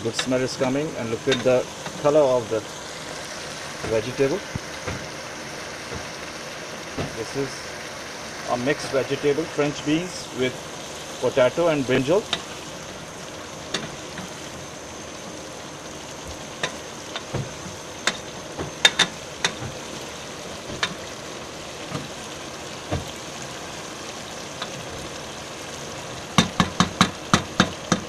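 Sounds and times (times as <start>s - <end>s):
vegetables sizzling: 0.0s - 28.0s.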